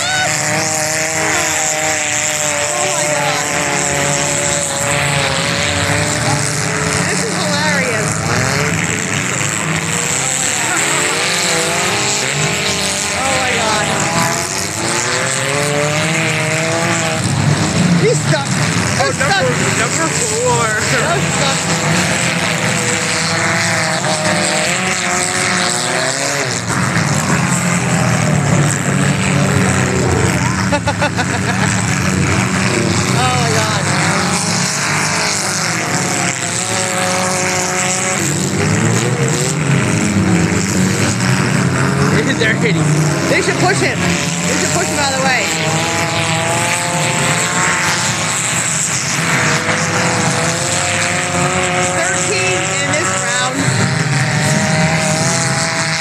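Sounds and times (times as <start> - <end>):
race car engines droning: 0.0 - 56.0.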